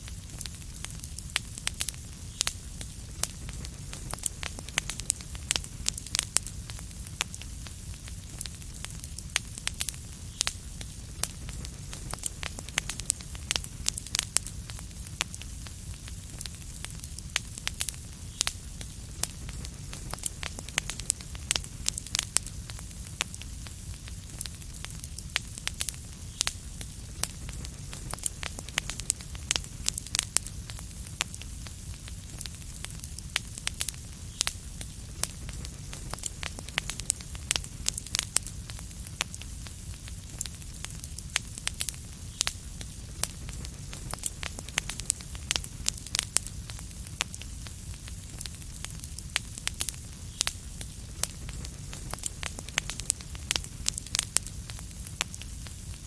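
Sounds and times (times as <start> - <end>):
fire crackling: 0.0 - 56.0.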